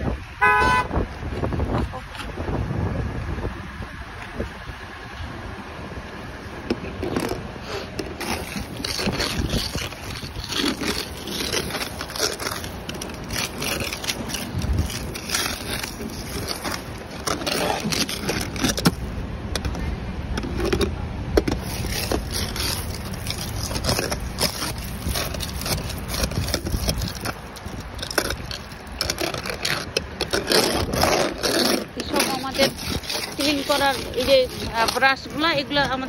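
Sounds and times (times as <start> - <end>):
ice scraper scraping ice: 6.7 - 36.0.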